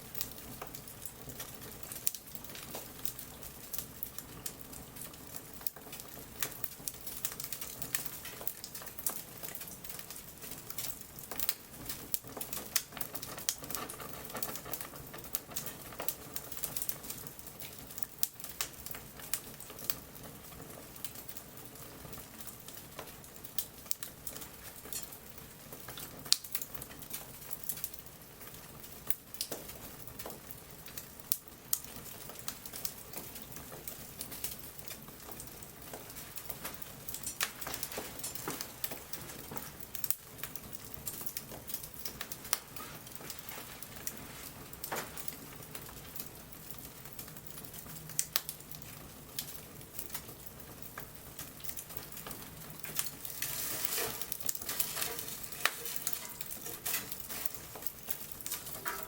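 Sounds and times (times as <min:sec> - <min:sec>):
bonfire crackling and hissing: 0:00.0 - 0:59.0
sharp pops of burning wood: 0:00.0 - 0:59.0.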